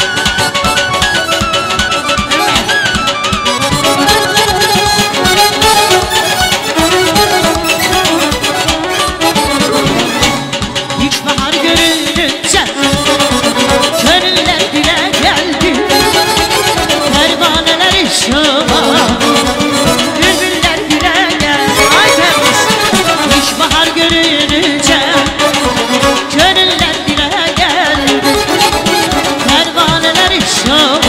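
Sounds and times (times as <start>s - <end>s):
button accordion melody: 0.0s - 12.1s, 12.8s - 15.0s, 15.6s - 17.8s, 18.6s - 24.4s, 25.1s - 26.9s, 27.9s - 30.2s
steady drum beat: 0.0s - 31.0s.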